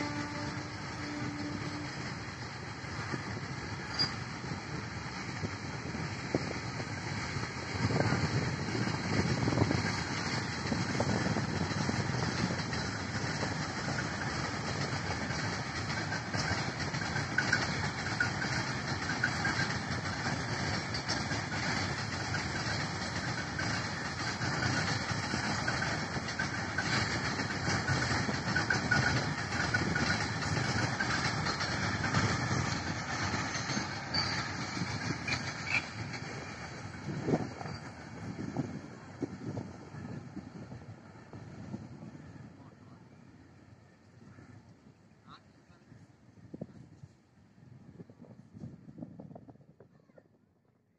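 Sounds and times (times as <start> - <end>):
freight wagons rumbling on rails: 0.0 - 50.4.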